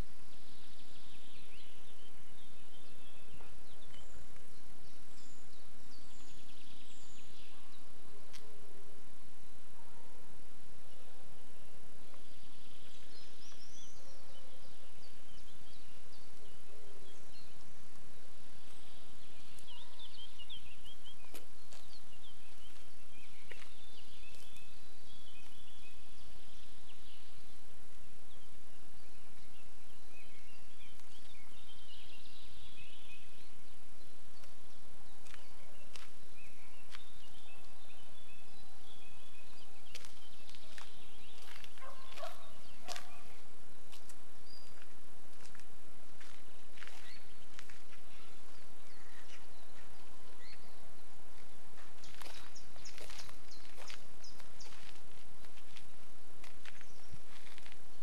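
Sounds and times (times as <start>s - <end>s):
outdoor background noise: 0.0s - 58.0s
small birds chirping: 0.0s - 58.0s.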